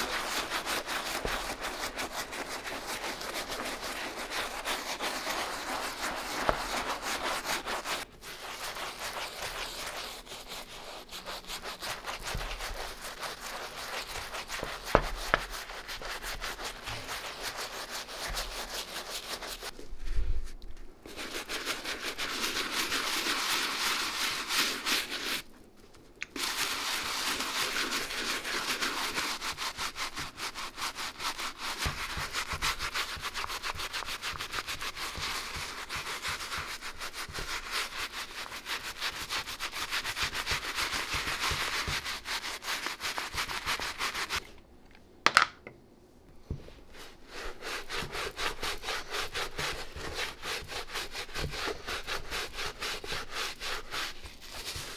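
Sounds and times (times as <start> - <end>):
brush scrubbing a sneaker: 0.0 - 44.4, 46.4 - 54.9.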